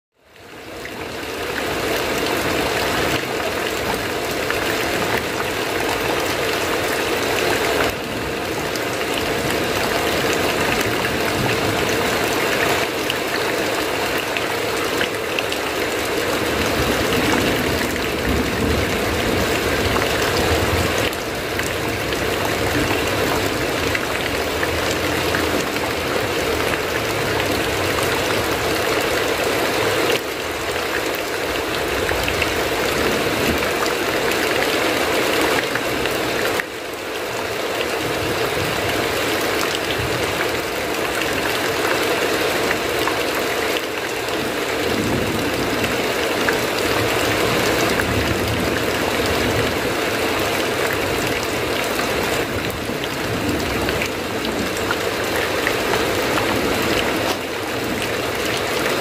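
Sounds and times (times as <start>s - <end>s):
heavy rain falling: 0.2s - 59.0s.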